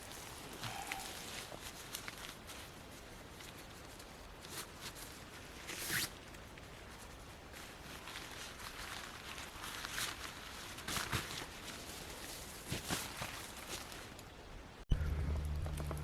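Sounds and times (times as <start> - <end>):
tent fabric rustling: 0.0 - 14.4.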